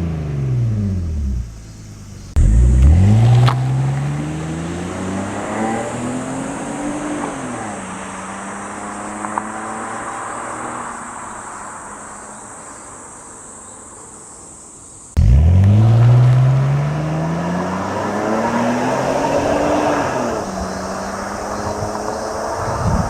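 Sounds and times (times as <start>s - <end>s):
car engine revving: 0.0s - 12.2s, 15.2s - 23.0s.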